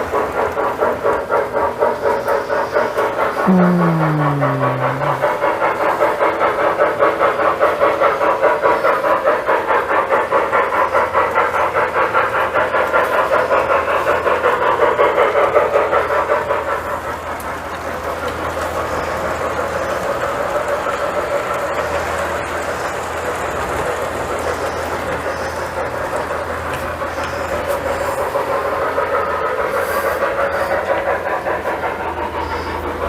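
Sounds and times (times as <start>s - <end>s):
model train chuffing on track: 0.0s - 33.0s.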